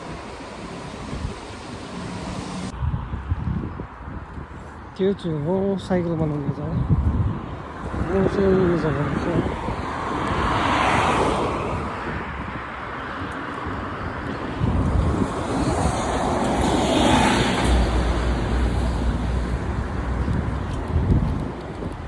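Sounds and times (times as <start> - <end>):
cars passing: 0.0 - 3.2, 7.4 - 22.0
wind buffeting microphone: 0.0 - 22.0.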